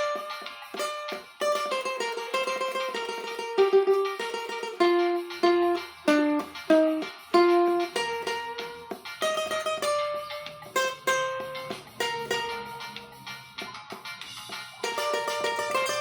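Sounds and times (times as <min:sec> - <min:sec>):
plucked cavaquinho melody: 0:00.0 - 0:16.0.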